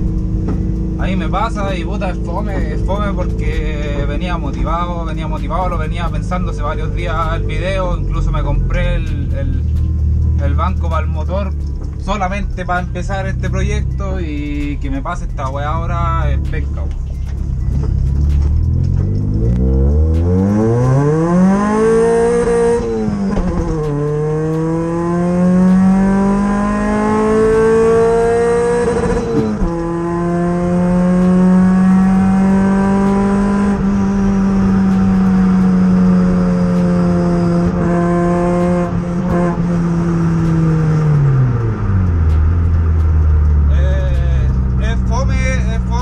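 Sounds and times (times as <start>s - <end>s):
car engine revving through gears: 0.0s - 46.0s.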